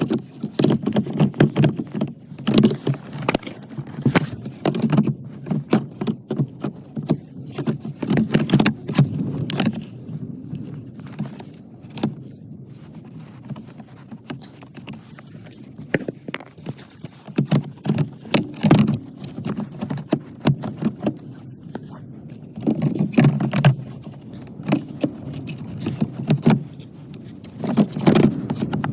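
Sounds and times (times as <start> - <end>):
clicks and rattles of tools and plastic: 0.0 - 28.9.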